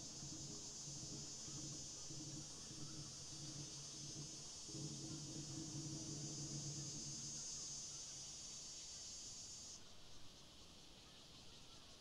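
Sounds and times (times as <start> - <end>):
loud high insect buzz: 0.0 - 9.8
faint high insect chorus: 0.0 - 12.0.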